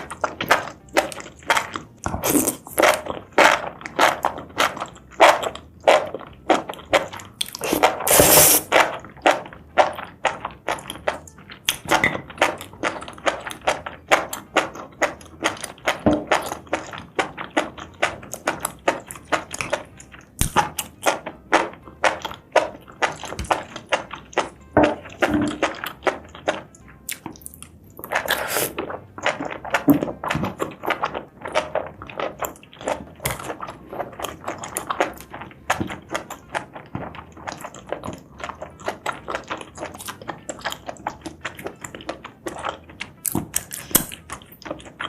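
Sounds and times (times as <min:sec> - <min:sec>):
person chewing food: 0:00.0 - 0:45.0
smacking and slurping: 0:00.0 - 0:45.0.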